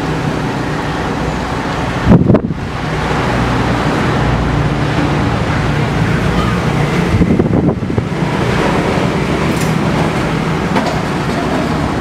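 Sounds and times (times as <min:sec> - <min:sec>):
wind buffeting microphone: 0:01.9 - 0:12.0.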